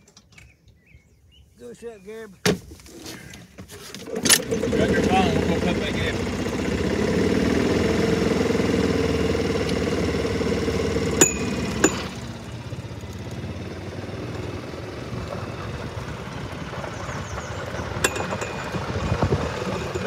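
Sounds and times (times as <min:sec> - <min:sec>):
golf cart engine running: 0:03.6 - 0:20.0.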